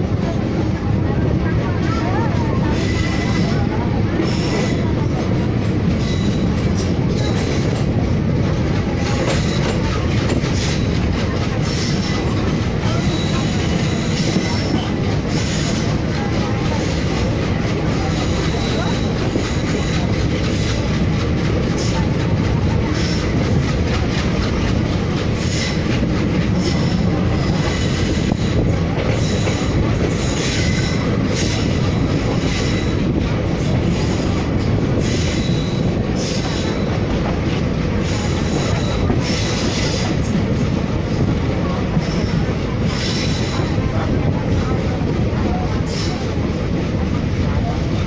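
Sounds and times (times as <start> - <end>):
rail clacks: 0.0 - 48.0
train wheels rumbling on rails: 0.0 - 48.0.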